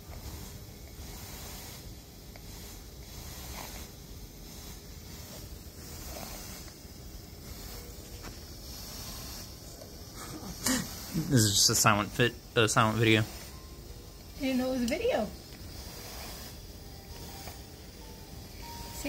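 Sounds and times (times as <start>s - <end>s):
rhythmic breathing hiss of air: 0.0s - 19.0s.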